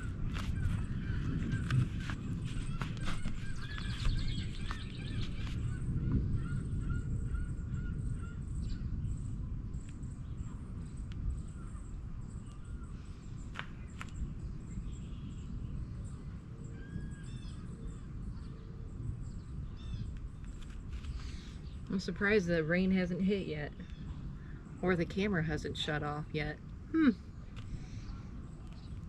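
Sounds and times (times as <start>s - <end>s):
birds chirping: 0.0s - 29.0s
steady low noise: 0.0s - 29.0s.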